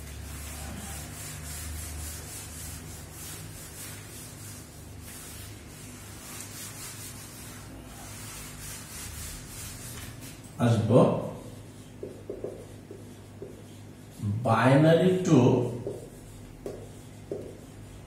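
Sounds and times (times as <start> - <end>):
eraser wiping whiteboard: 0.0 - 18.0
steady low hum: 0.0 - 18.0.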